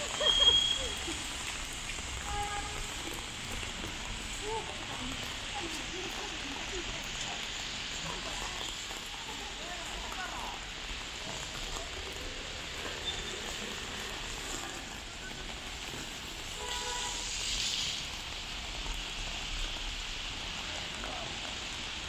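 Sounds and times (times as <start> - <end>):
heavy rain hissing on street: 0.0 - 22.0
vehicle passing on wet road: 0.0 - 22.0.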